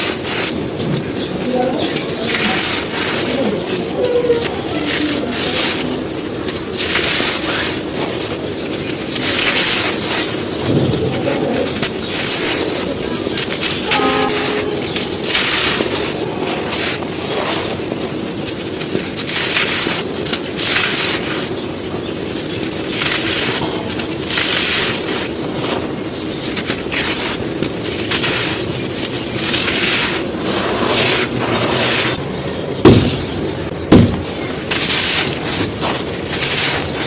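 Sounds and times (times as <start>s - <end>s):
sand shapes crumbling crunches: 0.0s - 37.0s.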